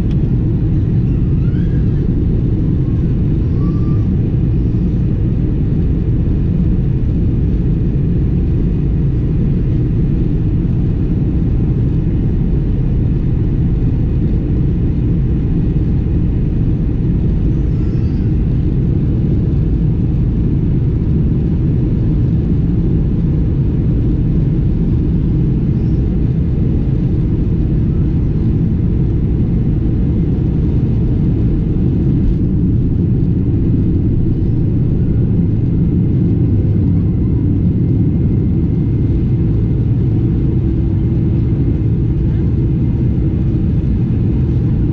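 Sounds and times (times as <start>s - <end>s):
jet engine cabin rumble: 0.0s - 44.9s.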